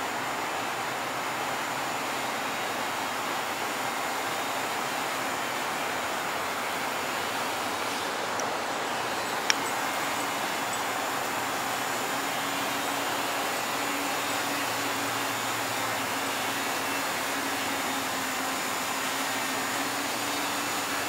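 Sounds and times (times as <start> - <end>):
drone propellers humming: 0.0 - 21.0
river water rushing: 0.0 - 21.0.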